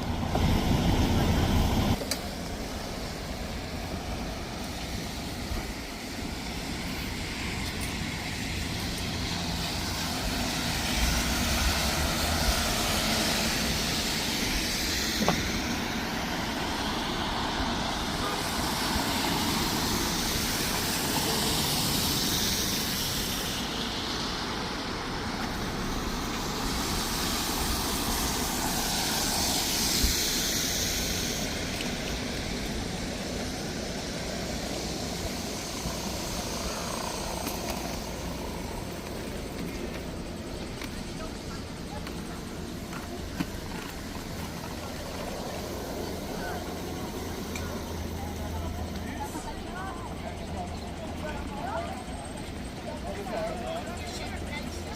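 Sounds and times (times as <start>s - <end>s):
vehicles passing on wet road: 0.0s - 54.9s.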